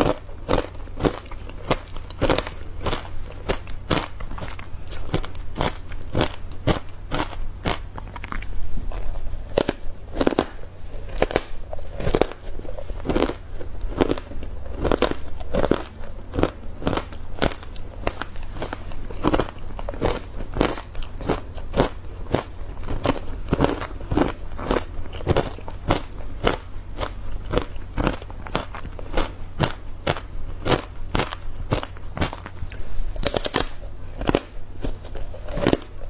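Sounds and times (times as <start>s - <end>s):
ice being chewed crunching: 0.0s - 36.0s.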